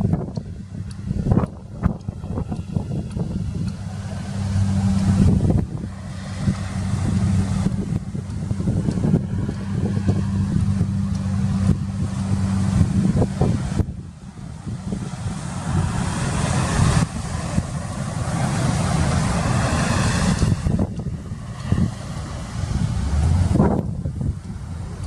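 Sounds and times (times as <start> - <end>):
boat engine humming: 0.0 - 25.0
wind gusts on microphone: 0.0 - 25.0.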